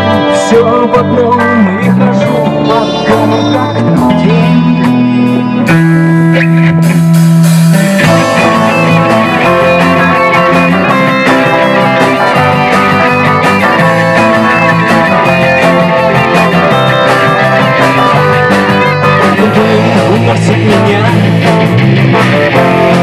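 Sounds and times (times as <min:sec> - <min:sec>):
instrumental rock music: 0:00.0 - 0:23.0.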